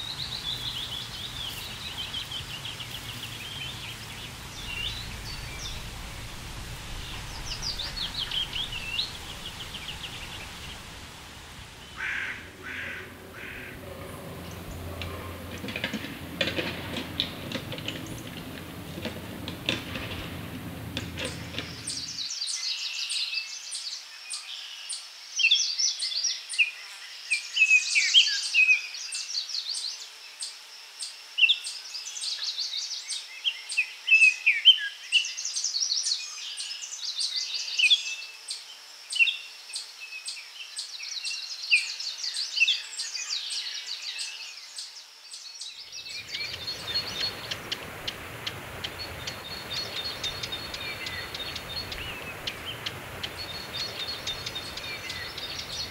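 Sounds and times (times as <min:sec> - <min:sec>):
songbirds singing and chirping: 0:00.0 - 0:55.9.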